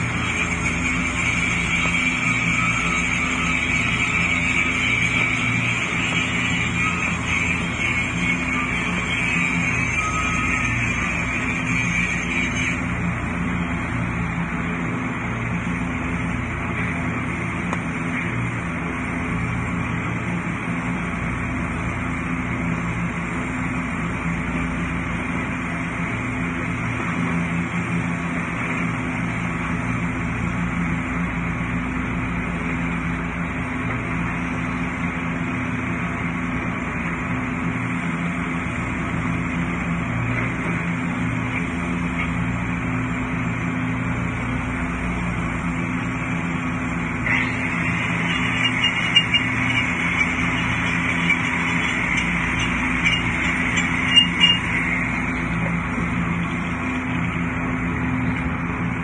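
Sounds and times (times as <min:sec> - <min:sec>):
engine humming steadily: 0:00.0 - 0:59.0.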